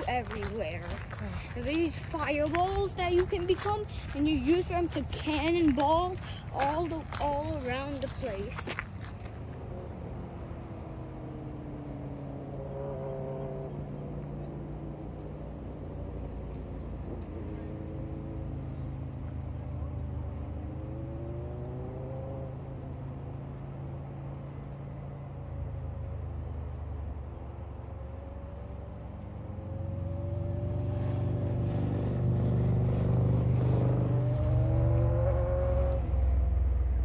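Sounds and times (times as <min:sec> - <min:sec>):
road traffic engine drone: 0:00.0 - 0:37.0.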